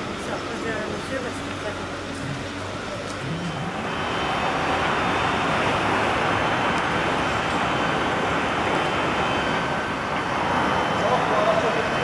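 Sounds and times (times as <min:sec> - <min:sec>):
tram wheels and motors running: 0:00.0 - 0:12.0.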